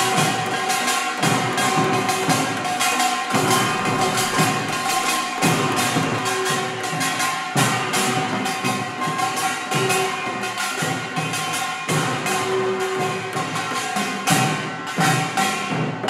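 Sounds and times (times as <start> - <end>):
hand gongs clanging: 0.0 - 15.9
drums: 0.0 - 16.0.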